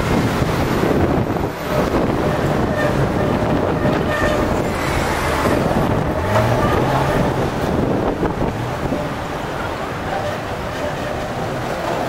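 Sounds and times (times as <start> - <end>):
bus passing: 0.0 - 12.0
street traffic: 0.0 - 12.0
tram passing: 0.0 - 12.0.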